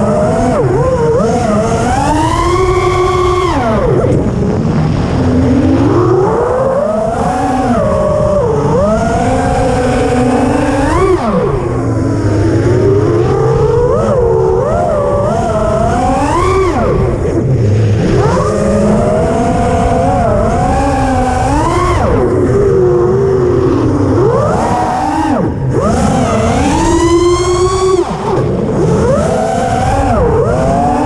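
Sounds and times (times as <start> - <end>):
drone propellers whining: 0.0 - 31.0
low rushing noise: 2.3 - 30.9.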